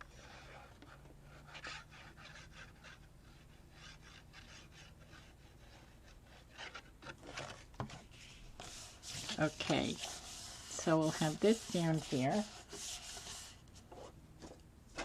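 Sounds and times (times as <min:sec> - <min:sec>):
paper rustling and rubbing: 0:01.5 - 0:15.0.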